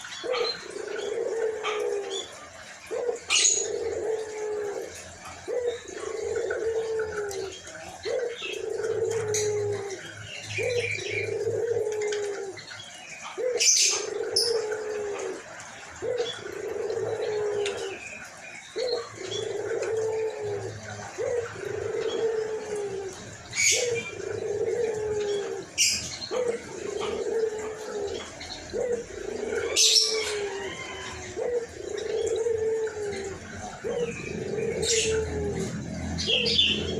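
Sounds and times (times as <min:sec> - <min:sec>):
dove cooing hoarsely: 0:00.0 - 0:36.9
small birds chirping: 0:00.0 - 0:36.9.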